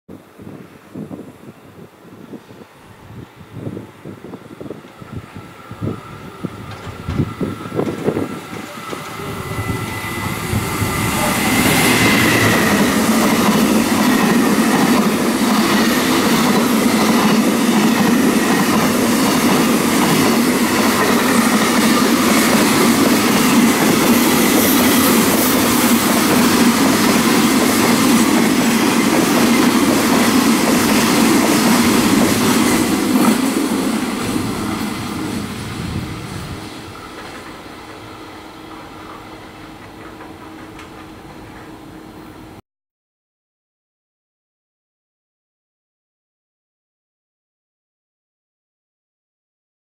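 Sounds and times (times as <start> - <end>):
train wheels on rails: 2.1 - 42.6.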